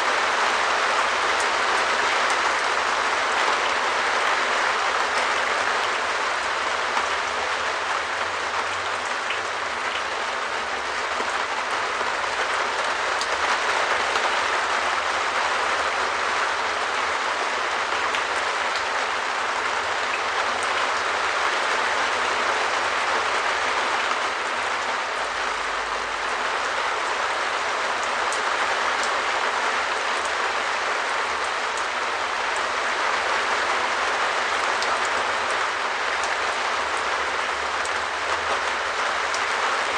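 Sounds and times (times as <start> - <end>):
rain on a shed roof: 0.0 - 39.9.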